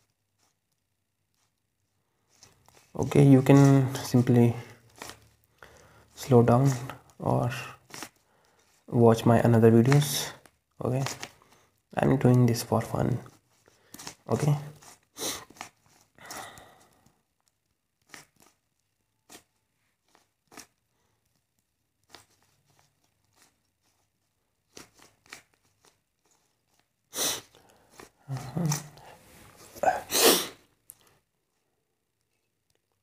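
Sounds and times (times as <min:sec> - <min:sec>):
rapid cube turning and handling: 0:00.0 - 0:29.8.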